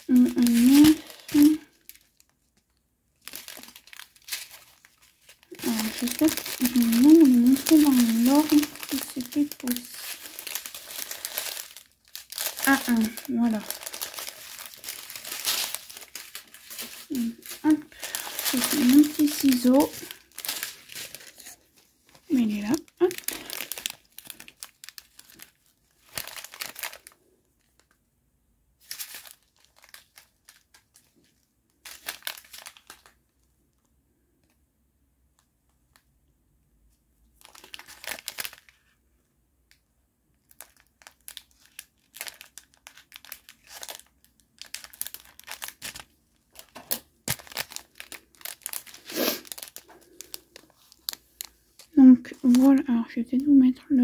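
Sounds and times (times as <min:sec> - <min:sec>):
plastic bags crinkling: 0:00.0 - 0:28.0, 0:28.8 - 0:33.4, 0:37.4 - 0:39.0, 0:40.4 - 0:54.0.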